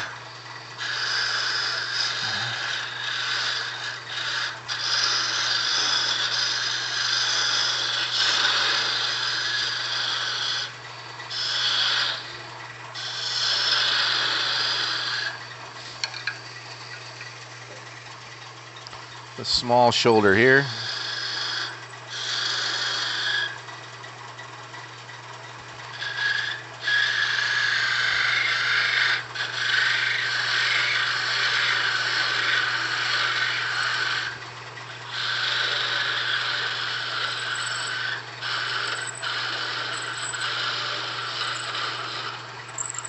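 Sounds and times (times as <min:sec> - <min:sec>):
turning tool cutting wood: 0:00.0 - 0:43.0
wood lathe humming: 0:00.0 - 0:43.0.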